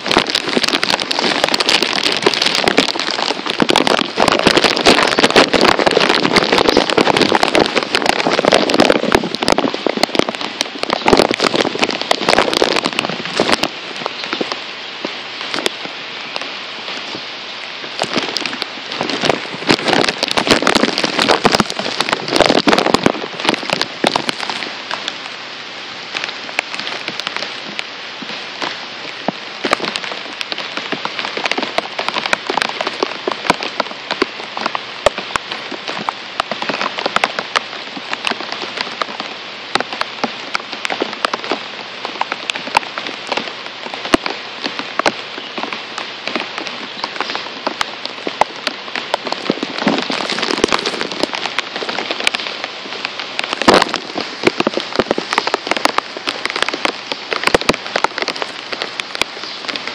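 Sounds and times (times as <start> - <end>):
rain hissing: 0.0 - 59.9
raindrops tapping close: 0.0 - 59.9.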